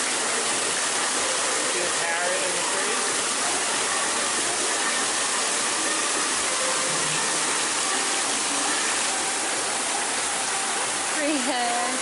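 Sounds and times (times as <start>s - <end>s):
water falling steadily: 0.0s - 12.0s.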